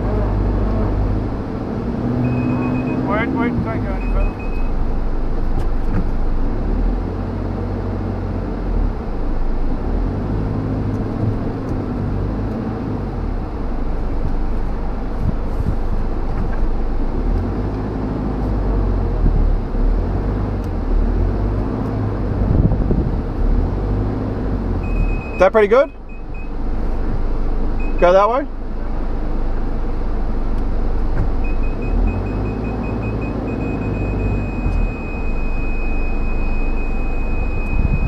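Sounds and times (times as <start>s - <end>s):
engine idling low rumble: 0.0s - 38.0s.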